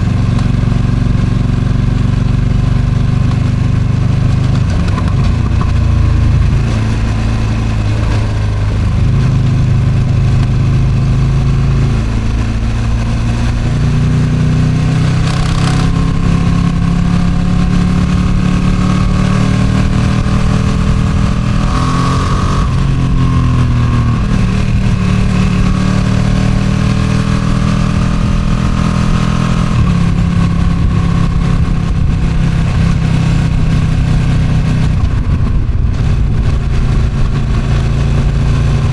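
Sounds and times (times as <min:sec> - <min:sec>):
gear changes: 0:00.0 - 0:38.9
motorcycle engine revving: 0:00.0 - 0:38.9
wind rushing over microphone: 0:00.0 - 0:38.9.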